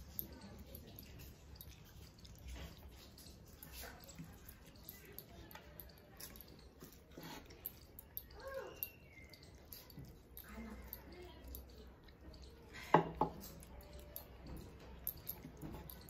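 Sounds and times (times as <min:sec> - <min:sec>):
smacking and chewing: 0:00.0 - 0:16.0.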